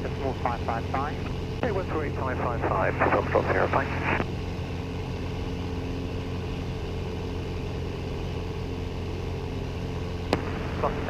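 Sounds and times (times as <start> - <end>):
propeller plane engine running: 0.0 - 11.0.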